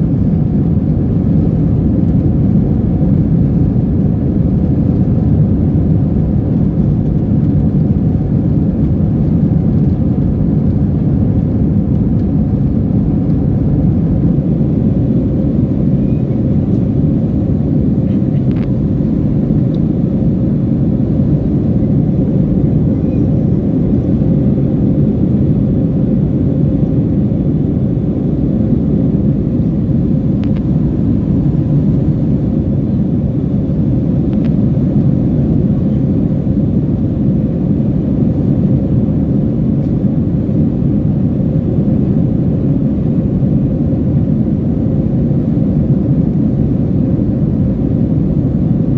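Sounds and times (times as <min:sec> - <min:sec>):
airplane engine rumble in cabin: 0:00.0 - 0:48.9.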